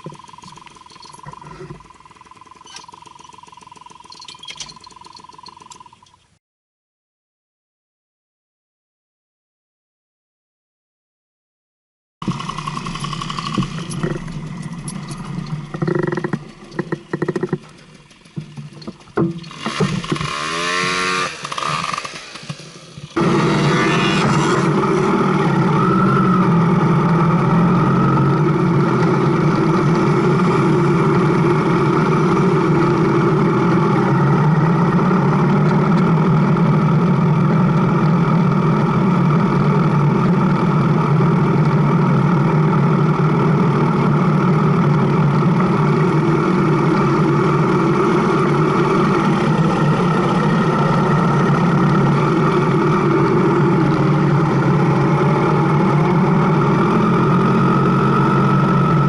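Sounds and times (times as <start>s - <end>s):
motorcycle engine running: 0.0s - 6.3s, 12.2s - 59.0s.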